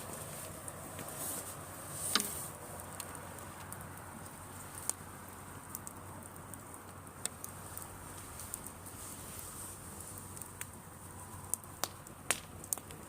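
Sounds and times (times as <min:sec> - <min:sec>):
campfire crackling: 0:00.0 - 0:13.0
fire popping: 0:00.0 - 0:13.0
steady hiss: 0:00.0 - 0:13.0.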